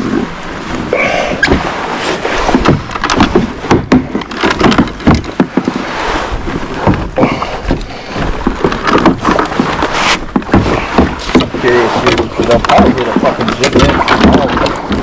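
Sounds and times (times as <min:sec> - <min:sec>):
fishing gear handling noises: 0:00.0 - 0:15.0.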